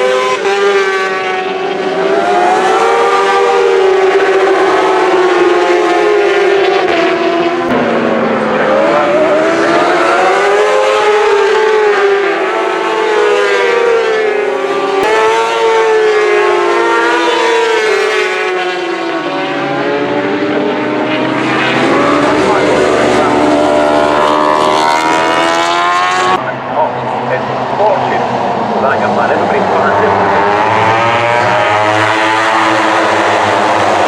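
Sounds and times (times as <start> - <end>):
superbike engines at high revs: 0.0 - 26.5, 28.8 - 34.0.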